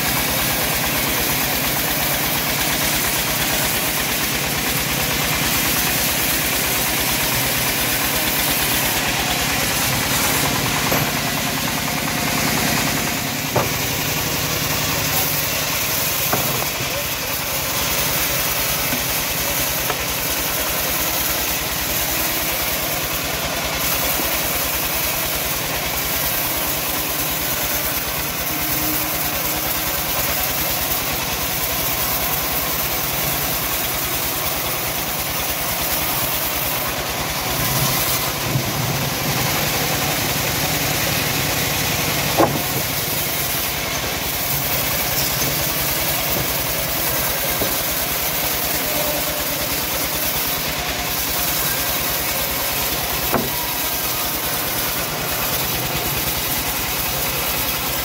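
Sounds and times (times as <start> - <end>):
bandsaw mill sawing log: 0.0 - 58.0.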